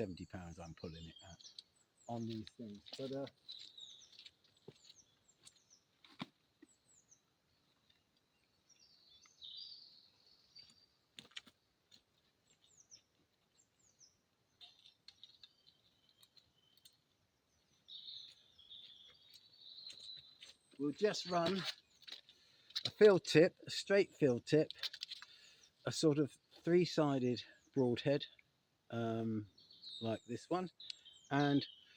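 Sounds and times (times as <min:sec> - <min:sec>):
faint birdsong: 0:00.0 - 0:31.9.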